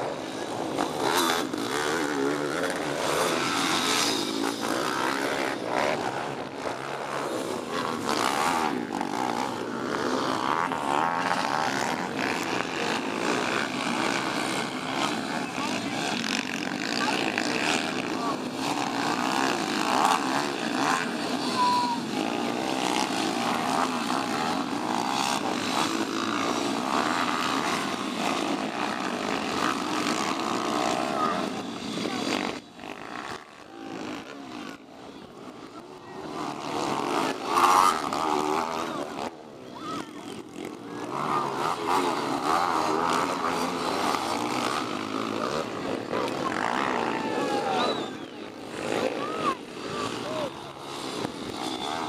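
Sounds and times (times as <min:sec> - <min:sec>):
pit bike engines revving: 0:00.0 - 0:52.0.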